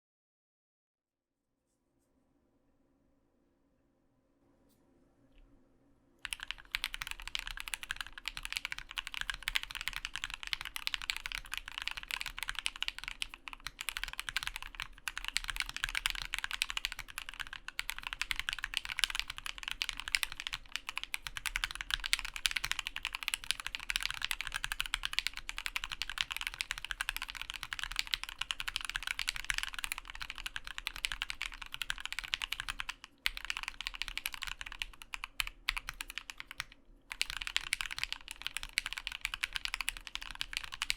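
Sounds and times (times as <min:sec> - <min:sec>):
typing on mechanical keyboard: 0:06.2 - 0:40.9.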